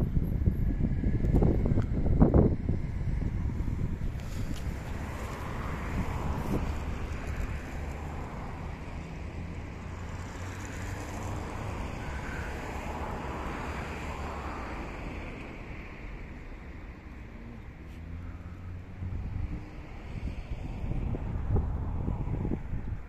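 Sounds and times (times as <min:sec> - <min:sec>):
wind buffeting microphone: 0:00.0 - 0:17.0, 0:18.6 - 0:23.0.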